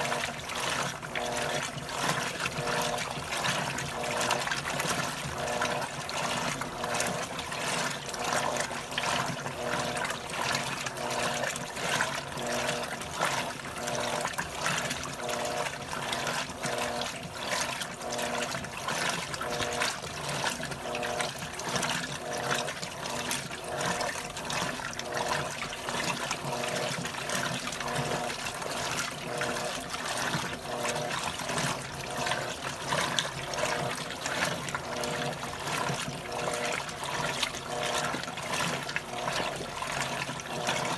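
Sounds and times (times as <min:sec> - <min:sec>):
washing machine motor hum: 0:00.0 - 0:40.9
water sloshing in washing machine: 0:00.0 - 0:40.9.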